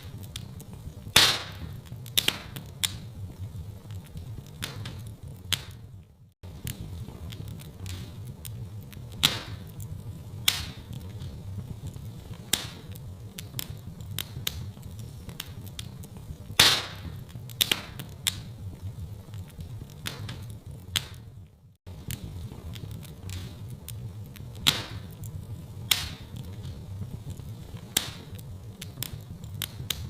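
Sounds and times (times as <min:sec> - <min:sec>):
fireplace fire crackling: 0:00.0 - 0:30.0
low fire rumble: 0:00.0 - 0:30.0.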